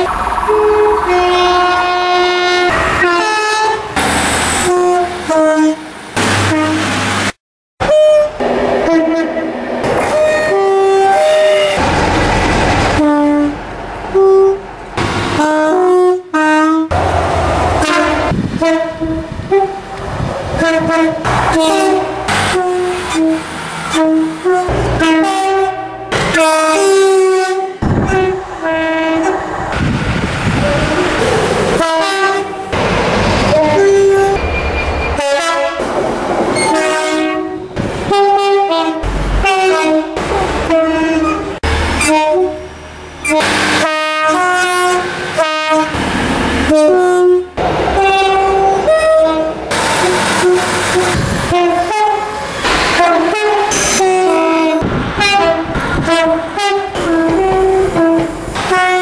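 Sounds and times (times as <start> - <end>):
two-tone train air horns: 0.0 - 7.0, 7.8 - 11.8, 13.0 - 14.6, 15.3 - 17.0, 17.8 - 20.0, 20.6 - 29.6, 30.6 - 32.8, 33.5 - 35.9, 36.6 - 59.0
passing train rumble: 0.0 - 59.0.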